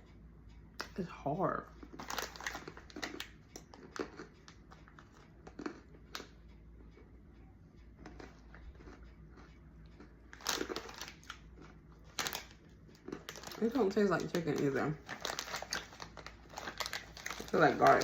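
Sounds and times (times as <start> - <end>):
chewing crunchy chip: 1.8 - 7.1, 8.0 - 18.0.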